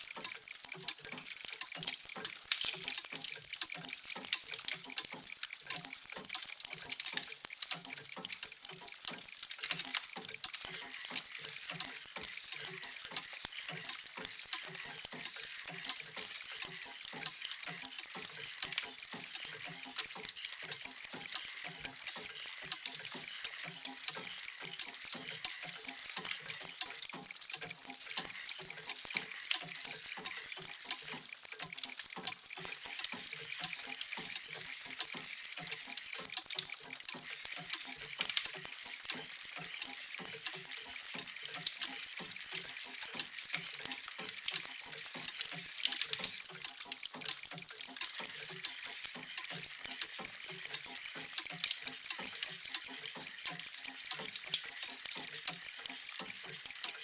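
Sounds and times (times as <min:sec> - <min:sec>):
mechanical clocks ticking: 0:00.0 - 0:57.0.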